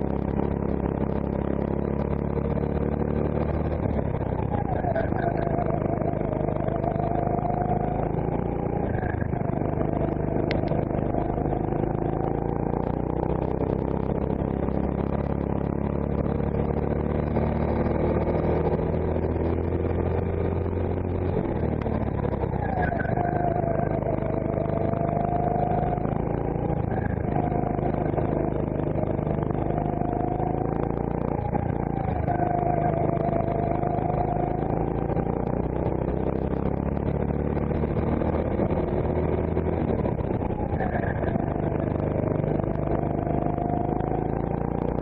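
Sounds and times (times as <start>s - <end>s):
kart engine running: 0.0s - 45.0s.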